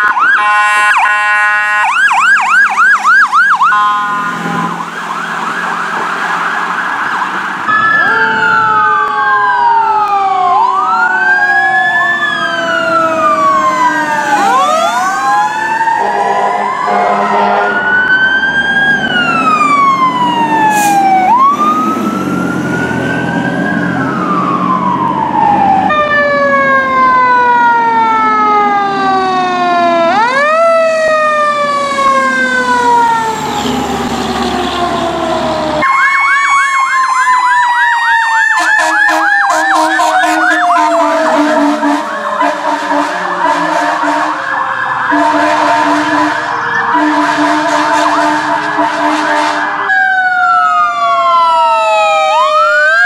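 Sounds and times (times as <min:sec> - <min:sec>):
fire truck sirens wailing: 0:00.0 - 0:53.0.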